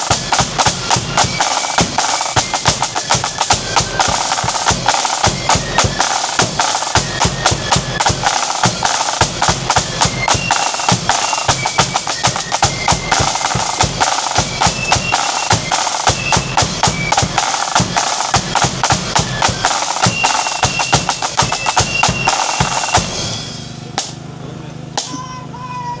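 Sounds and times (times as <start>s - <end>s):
flute melody: 0.0s - 23.4s
bass drum beats: 0.0s - 24.1s
snare drum rolls: 0.0s - 24.2s.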